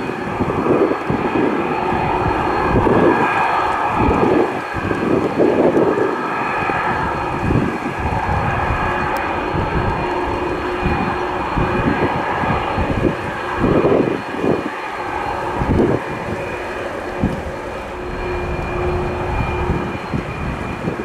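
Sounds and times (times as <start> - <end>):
jet engines whining: 0.0 - 21.0
wind buffeting microphone: 0.0 - 21.0.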